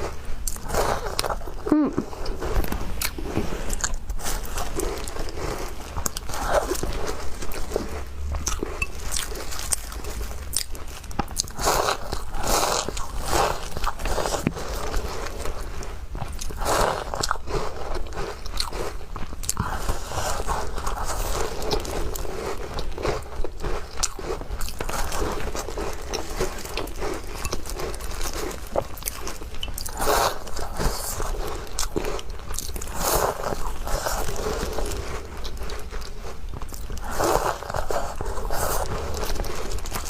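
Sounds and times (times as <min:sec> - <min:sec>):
cookies being bitten and chewed: 0:00.0 - 0:40.0.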